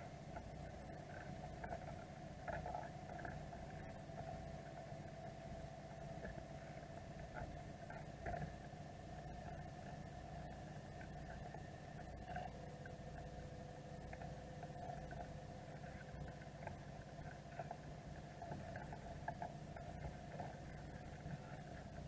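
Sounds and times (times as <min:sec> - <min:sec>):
camera hum and whine: 0:00.0 - 0:22.0.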